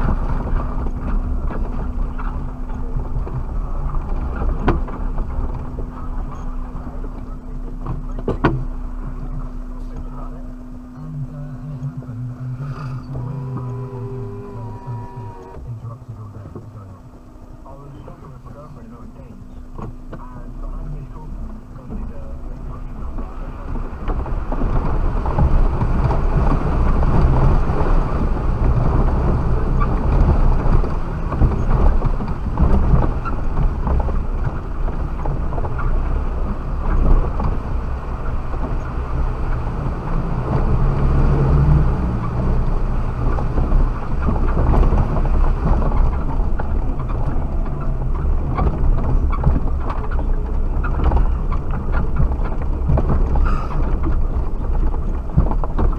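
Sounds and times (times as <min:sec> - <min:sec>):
knocks and rattles: 0:00.0 - 0:10.7, 0:19.6 - 0:55.9
engine and drivetrain drone: 0:00.0 - 0:55.9.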